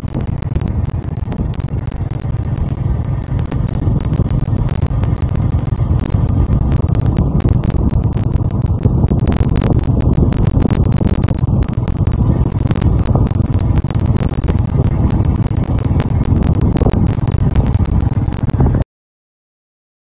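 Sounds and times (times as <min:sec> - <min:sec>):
motorcycle engine and tyres rumble: 0:00.0 - 0:18.8
sharp crackles: 0:00.0 - 0:18.8
wind rushing over microphone: 0:00.0 - 0:18.8.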